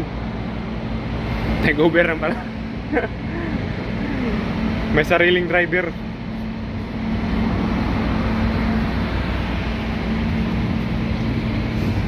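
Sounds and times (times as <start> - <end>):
cars driving past: 0.0 - 12.0
constant low hum: 0.0 - 12.0.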